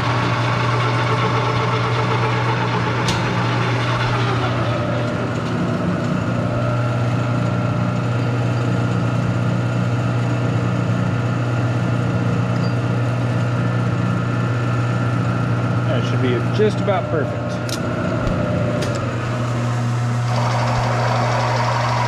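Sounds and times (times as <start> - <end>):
metal lathe humming: 0.0 - 22.0.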